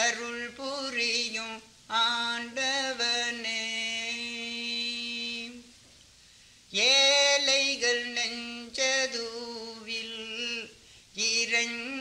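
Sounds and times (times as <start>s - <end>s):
man singing unaccompanied: 0.0s - 5.7s, 6.7s - 12.0s.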